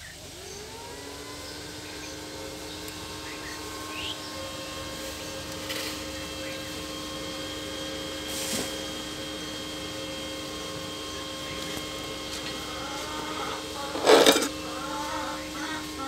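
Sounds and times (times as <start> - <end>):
welder electrical hum: 0.0 - 16.0.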